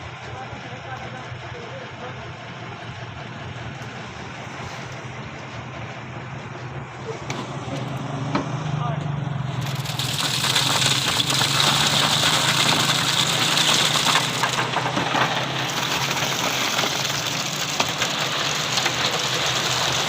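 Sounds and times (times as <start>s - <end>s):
engine humming: 0.0s - 20.0s
loud rushing grinding noise: 2.6s - 20.0s.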